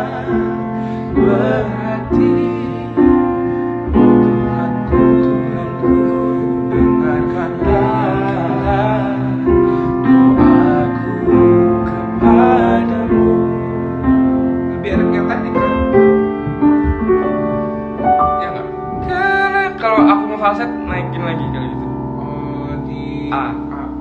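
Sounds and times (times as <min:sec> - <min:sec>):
man singing: 0:00.0 - 0:16.0, 0:18.4 - 0:24.0
worship song on piano: 0:00.0 - 0:24.0.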